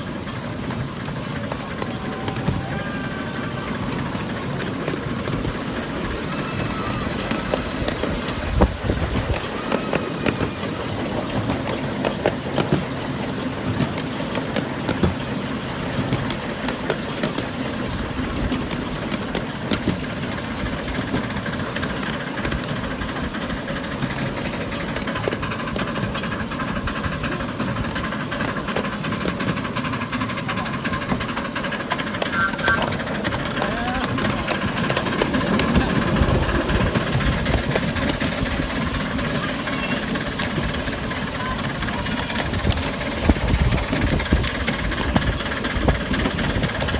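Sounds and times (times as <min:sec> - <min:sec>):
steam locomotive running on rails: 0:00.0 - 0:46.9.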